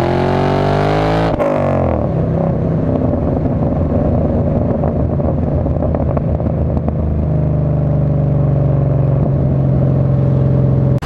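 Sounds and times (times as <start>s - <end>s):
car engine burbling through exhaust: 0.0s - 11.0s.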